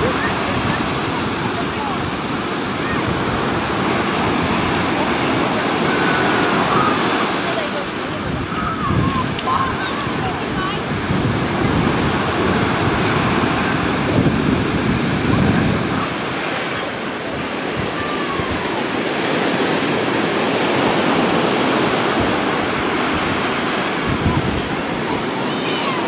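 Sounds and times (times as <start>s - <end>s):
ocean surf on beach: 0.0s - 26.0s
wind buffeting microphone: 0.0s - 26.0s.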